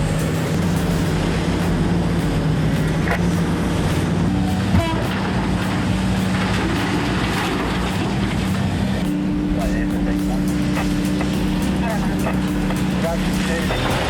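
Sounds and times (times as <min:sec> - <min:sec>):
heavy diesel engine under load: 0:00.0 - 0:14.0.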